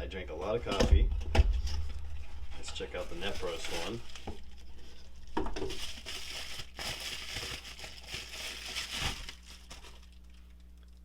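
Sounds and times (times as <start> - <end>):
packaging crinkling: 1.7 - 11.0.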